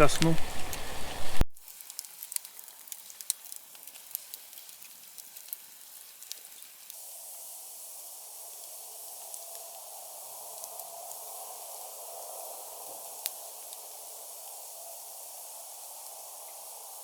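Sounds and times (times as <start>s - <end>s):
campfire crackling and popping: 0.0s - 17.0s
steady hiss of fire: 0.0s - 17.0s.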